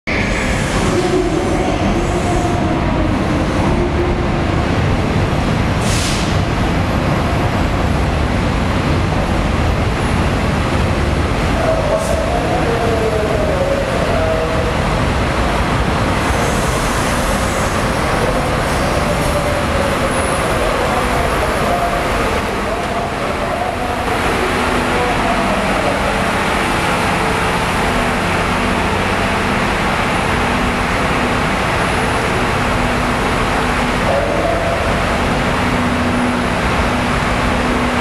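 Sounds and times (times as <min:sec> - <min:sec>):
diesel locomotive engine rumble: 0:00.0 - 0:38.0.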